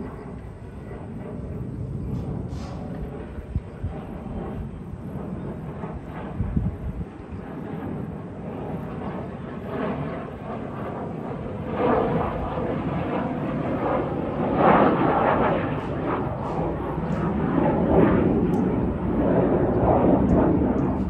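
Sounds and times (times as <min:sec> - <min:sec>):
fighter jet passing: 0:00.0 - 0:21.0.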